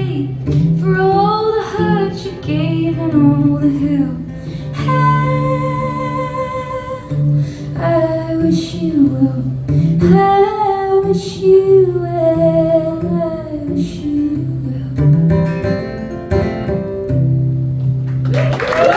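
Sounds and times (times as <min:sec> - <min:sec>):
woman singing wordlessly: 0:00.0 - 0:15.2
guitar: 0:00.0 - 0:18.9.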